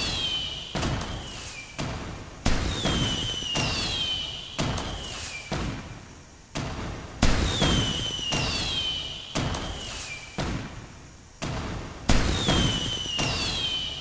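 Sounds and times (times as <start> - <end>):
falling firework whistle: 0.0 - 6.0, 7.2 - 10.8, 12.1 - 14.0
firework bangs: 0.0 - 14.0.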